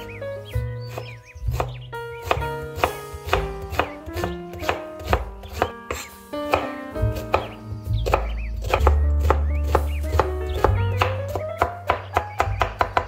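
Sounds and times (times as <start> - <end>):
background music: 0.0 - 13.0
knife dicing onion on board: 0.9 - 13.0.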